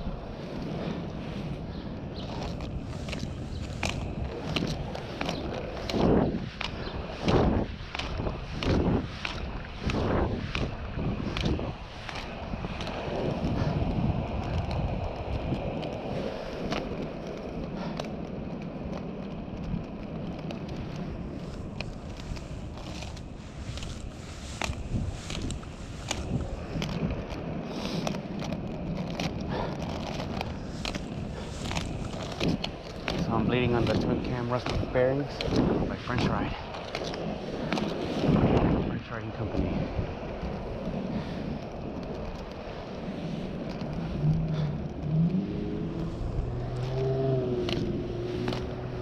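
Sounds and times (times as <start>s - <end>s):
low hum: 0.0s - 49.0s
skate wheels rumbling on pavement: 0.0s - 49.0s
skates clicking and scraping: 0.0s - 49.0s.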